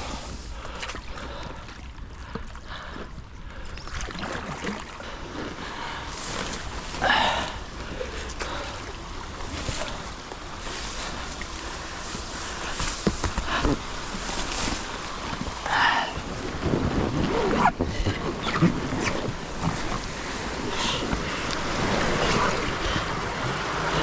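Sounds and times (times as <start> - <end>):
water sloshing around boat: 0.0 - 24.0.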